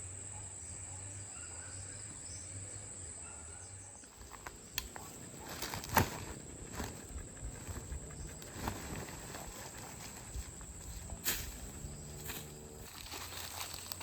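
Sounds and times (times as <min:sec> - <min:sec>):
insects droning: 0:00.0 - 0:14.0
rural background: 0:00.0 - 0:14.0.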